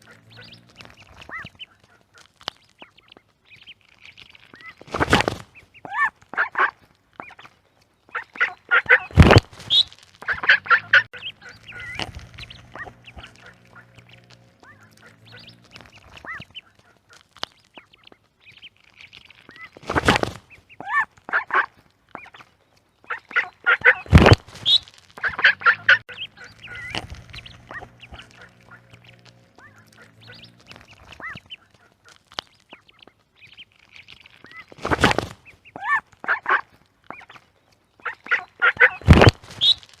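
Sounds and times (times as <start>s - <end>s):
duck quacking: 0.0s - 18.2s, 19.2s - 33.1s, 34.2s - 39.8s.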